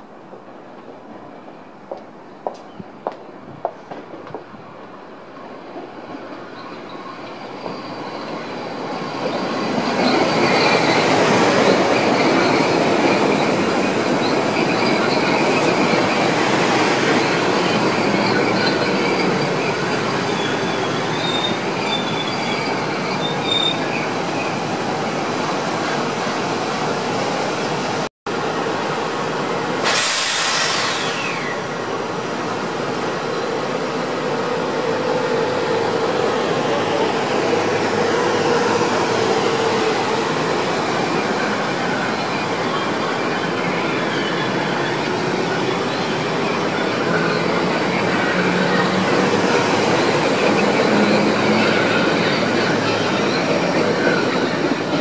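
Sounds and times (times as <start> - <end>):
train passing close by: 0.0 - 55.0
train wheels squealing: 5.3 - 26.9, 29.8 - 55.0.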